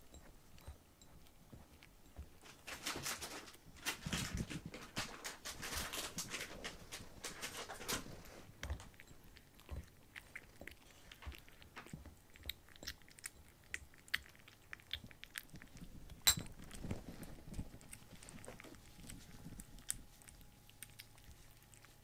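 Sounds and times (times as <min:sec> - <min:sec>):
kittens chewing food: 0:00.0 - 0:22.0.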